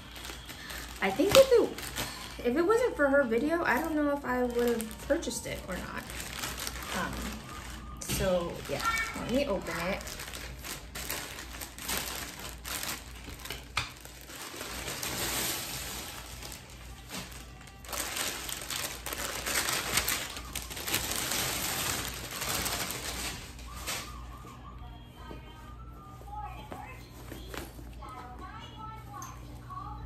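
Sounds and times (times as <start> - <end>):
packaging crinkling and rustling: 0.0 - 25.3.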